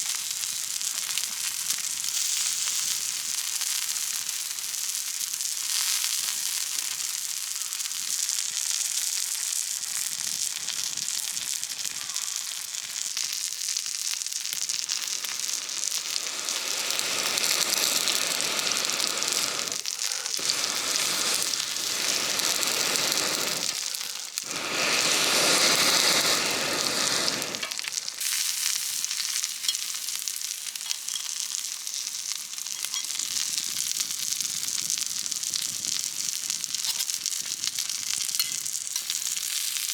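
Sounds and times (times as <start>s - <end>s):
food sizzling on griddle: 0.0s - 39.9s.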